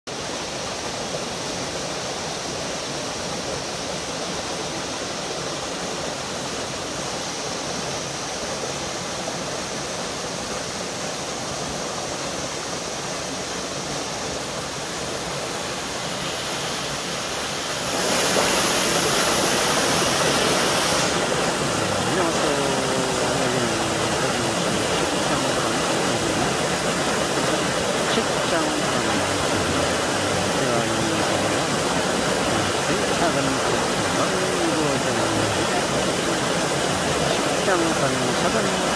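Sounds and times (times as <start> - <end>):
water splashing over boulders: 0.1 - 38.9.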